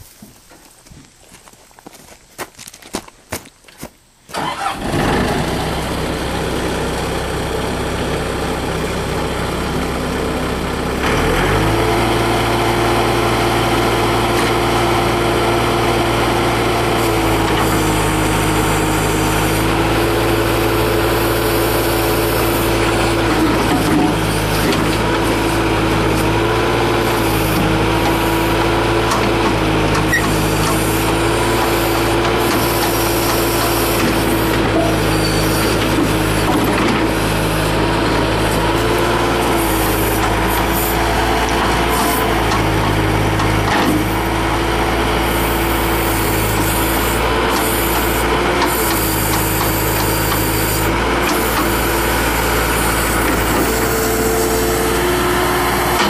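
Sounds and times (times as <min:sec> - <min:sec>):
diesel engine starting and idling: 0:04.3 - 0:56.0.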